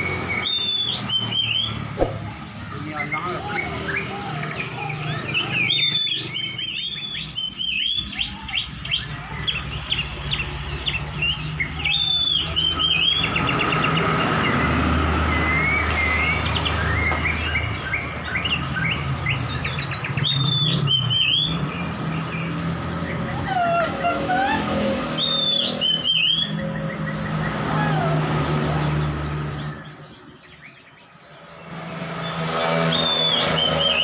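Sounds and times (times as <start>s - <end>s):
magpie-robin singing: 0.0s - 34.0s.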